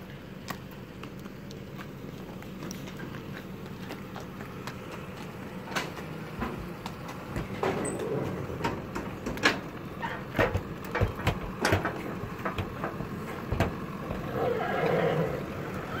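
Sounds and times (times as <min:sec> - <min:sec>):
horse hooves clopping on pavement: 0:00.0 - 0:16.0.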